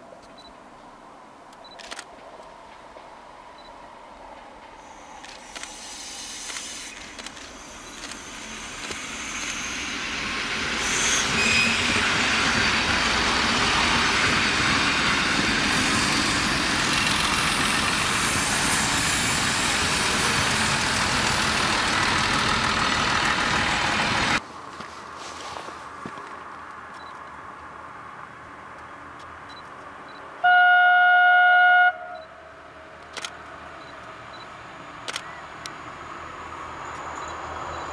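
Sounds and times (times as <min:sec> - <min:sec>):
diesel railcars passing: 0:00.4 - 0:37.9.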